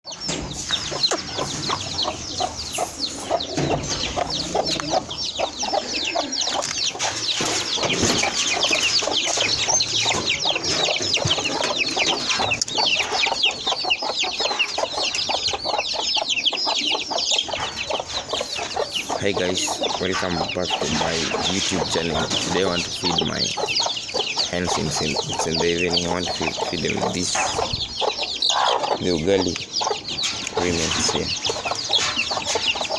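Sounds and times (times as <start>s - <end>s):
chicks peeping: 0.1s - 32.9s
hens clucking: 0.1s - 32.9s.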